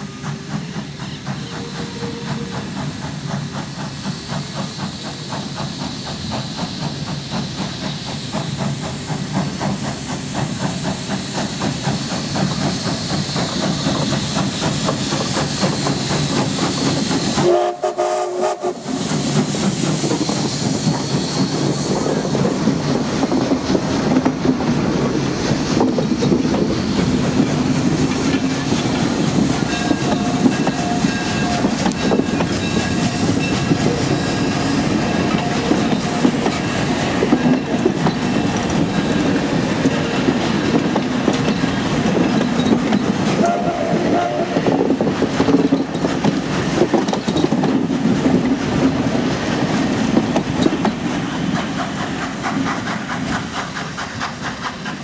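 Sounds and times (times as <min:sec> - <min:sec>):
steam locomotive passing: 0:00.0 - 0:55.0
train wheels over rail joints: 0:00.0 - 0:55.0.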